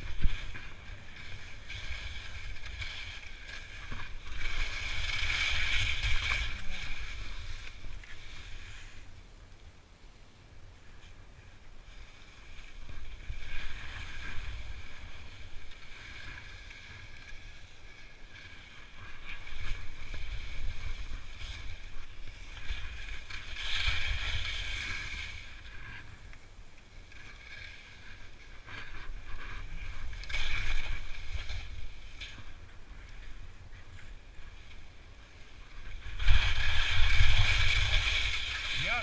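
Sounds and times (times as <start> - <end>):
skis scraping over snow: 0.0 - 9.1, 10.8 - 39.0.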